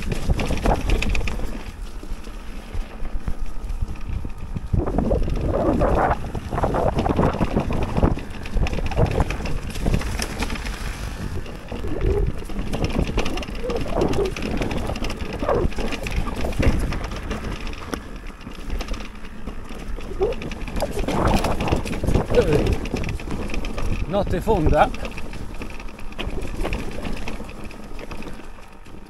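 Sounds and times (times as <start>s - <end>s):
wind on microphone: 0.0s - 28.6s
bike parts rattling: 0.0s - 29.0s
bike tyres rumbling on trail: 0.0s - 29.0s.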